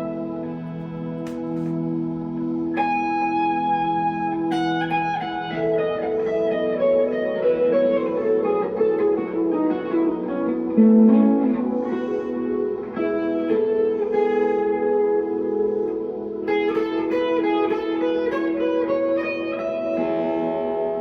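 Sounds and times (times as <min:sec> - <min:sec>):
clean electric guitar with reverb: 0:00.0 - 0:21.0.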